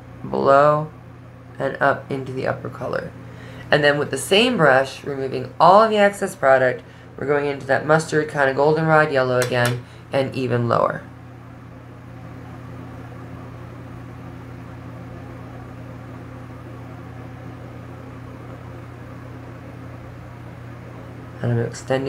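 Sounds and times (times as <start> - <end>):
low hum with hiss: 0.0 - 22.0.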